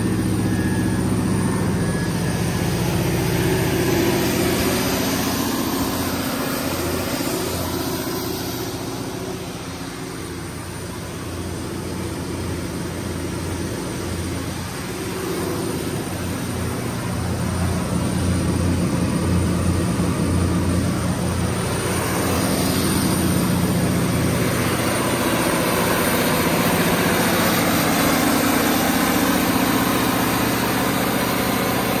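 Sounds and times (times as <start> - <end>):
diesel generator engine drone: 0.0 - 32.0
radiator fan: 0.0 - 32.0.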